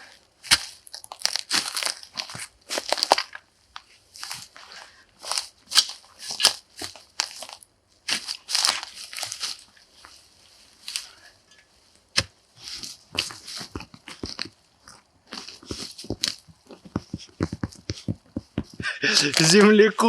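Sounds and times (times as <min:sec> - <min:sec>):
digging into soil and roots: 0:00.0 - 0:20.0.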